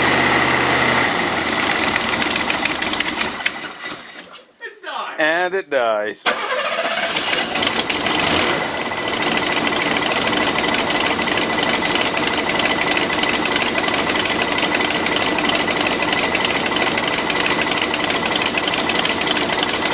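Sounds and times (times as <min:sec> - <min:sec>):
car engine clattering: 0:00.0 - 0:04.3, 0:06.3 - 0:19.9.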